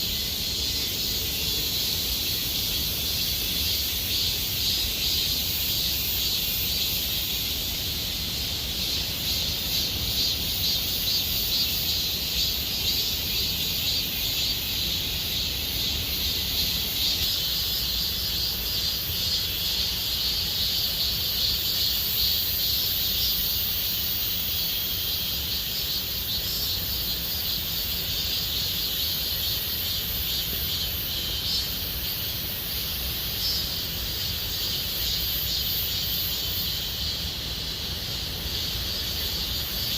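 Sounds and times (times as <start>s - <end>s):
cicadas singing: 0.0s - 39.9s.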